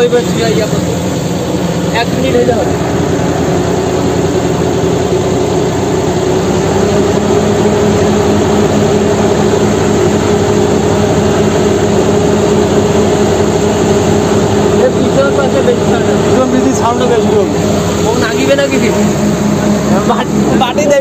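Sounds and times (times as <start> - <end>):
loud mechanical drone: 0.0 - 21.0.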